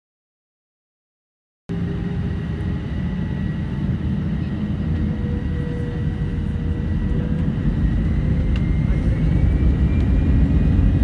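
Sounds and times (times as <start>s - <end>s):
jet engines at takeoff power: 1.7s - 11.0s.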